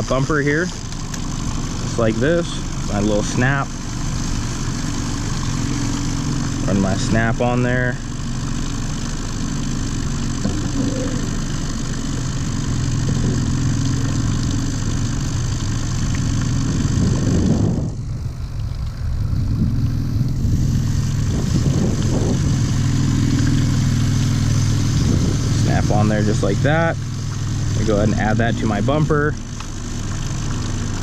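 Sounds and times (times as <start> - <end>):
boat motor idling: 0.0 - 31.0.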